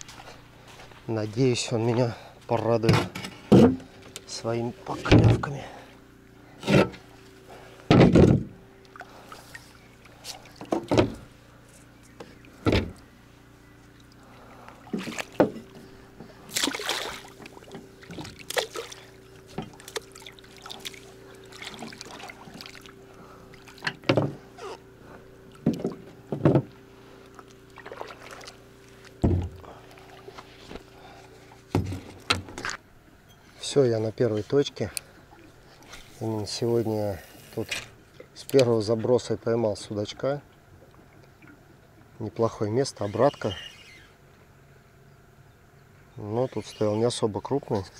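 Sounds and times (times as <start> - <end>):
boat engine hum: 0.0 - 47.9.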